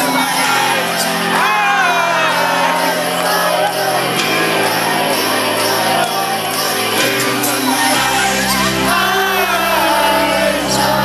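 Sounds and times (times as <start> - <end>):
crowd singing and shouting: 0.0 - 11.0
live electronic dance music: 0.0 - 11.0.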